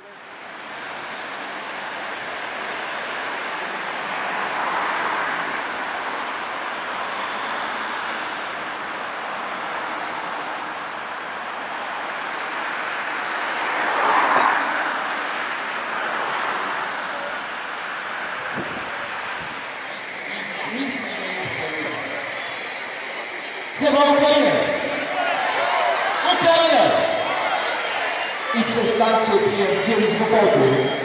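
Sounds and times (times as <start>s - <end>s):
cars driving past: 0.0s - 31.0s.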